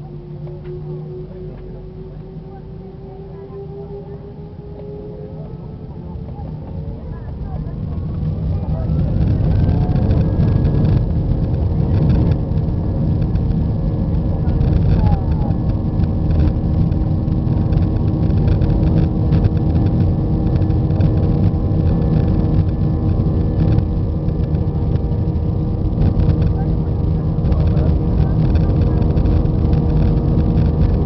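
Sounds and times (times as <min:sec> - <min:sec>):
aircraft engines humming: 0:00.0 - 0:31.0.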